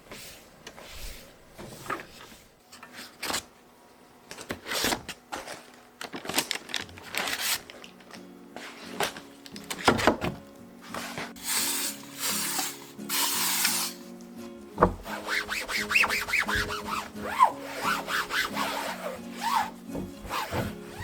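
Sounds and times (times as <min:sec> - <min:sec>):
faint background music: 0:03.6 - 0:21.0.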